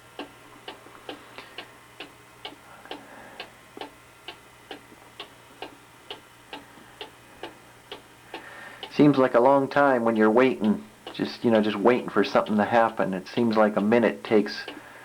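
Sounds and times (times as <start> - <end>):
cuckoo clock ticking: 0.0 - 14.9.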